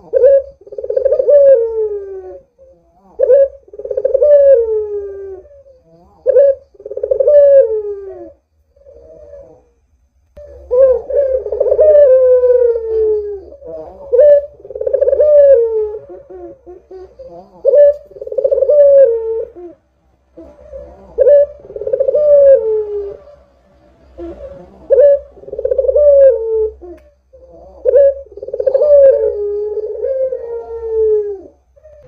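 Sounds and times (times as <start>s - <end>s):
dove cooing: 0.0s - 9.8s, 10.4s - 32.0s.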